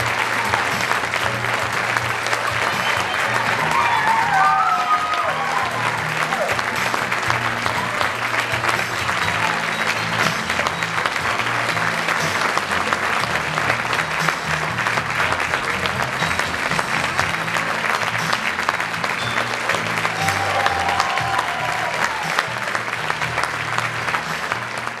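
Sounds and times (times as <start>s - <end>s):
audience applauding: 0.0s - 25.0s
music with stepping bass line: 0.0s - 25.0s.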